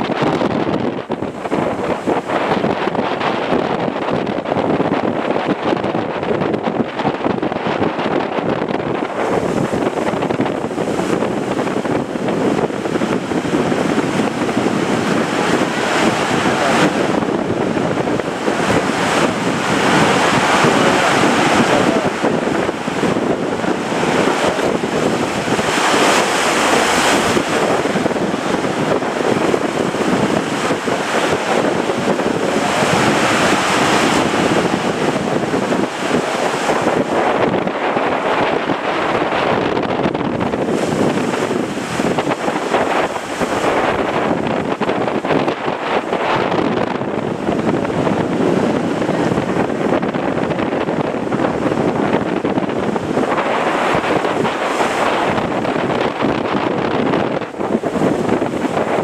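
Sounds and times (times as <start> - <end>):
surf breaking: 0.0 - 59.0
wind on microphone: 0.0 - 59.0.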